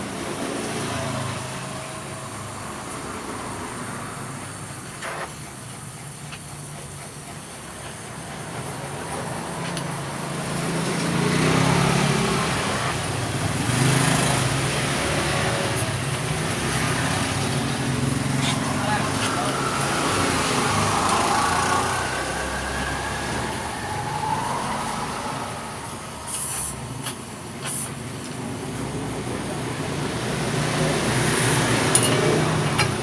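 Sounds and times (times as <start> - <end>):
motor vehicle engine running: 1.6 - 33.0.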